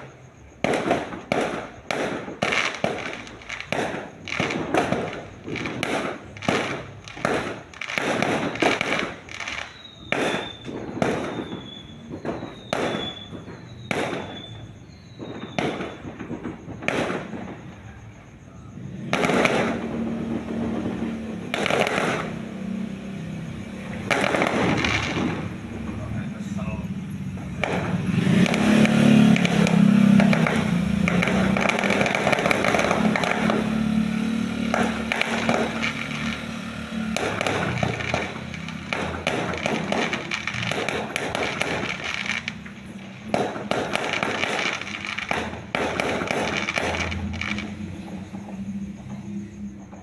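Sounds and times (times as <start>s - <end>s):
fireworks bangs and crackling: 0.0s - 50.0s.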